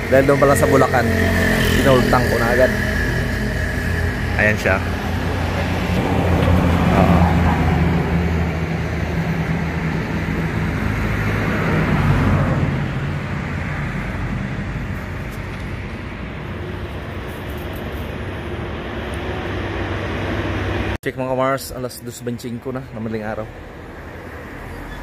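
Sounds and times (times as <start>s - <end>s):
low engine hum: 0.0s - 21.0s
road traffic noise: 0.0s - 25.0s.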